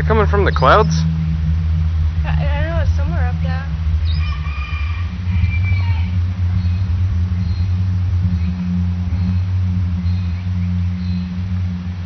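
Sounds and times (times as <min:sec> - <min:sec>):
loud low drone: 0:00.0 - 0:12.0.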